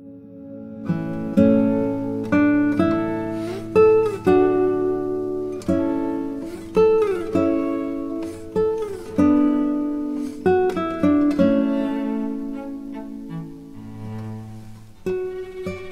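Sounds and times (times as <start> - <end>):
slow plucked guitar melody: 0.0 - 15.9.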